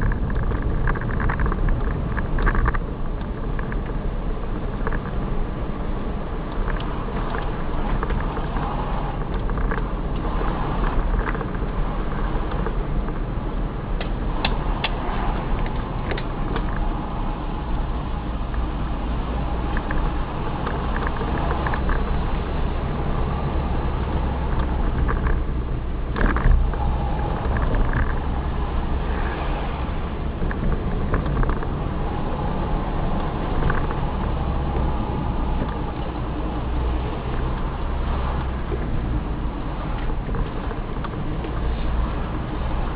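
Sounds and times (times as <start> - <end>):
car engine and tyre noise: 0.0 - 42.9.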